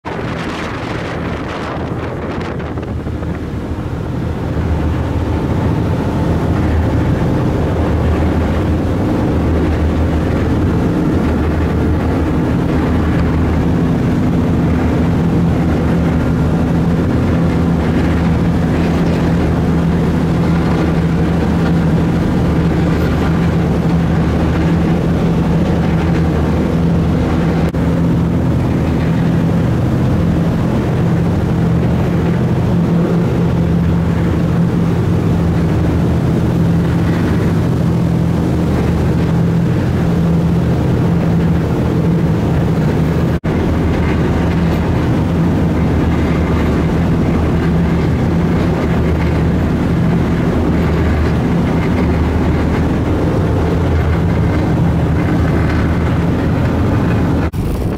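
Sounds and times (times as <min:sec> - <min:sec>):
boat engine droning: 0:00.0 - 0:57.9
rushing water: 0:00.0 - 0:57.9
wind on microphone: 0:00.0 - 0:57.9.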